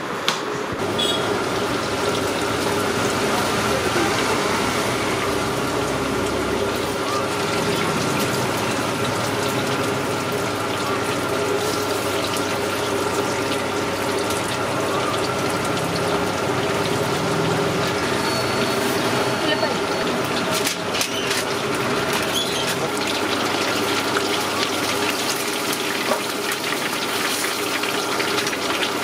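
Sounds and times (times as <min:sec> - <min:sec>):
chicken deep-frying in oil: 0:00.8 - 0:29.0.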